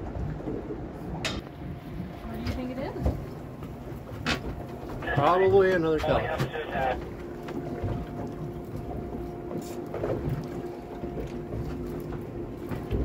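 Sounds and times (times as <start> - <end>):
boat machinery hum: 0.0 - 13.0
water noise: 0.0 - 13.0
wind: 0.0 - 13.0.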